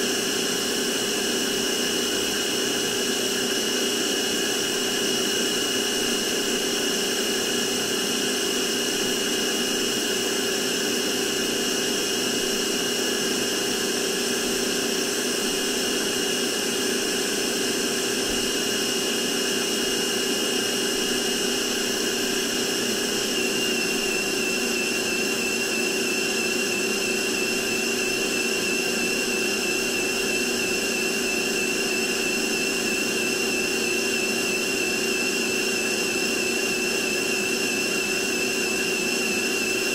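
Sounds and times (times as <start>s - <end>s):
handheld vacuum cleaner motor whirring: 0.0s - 39.9s.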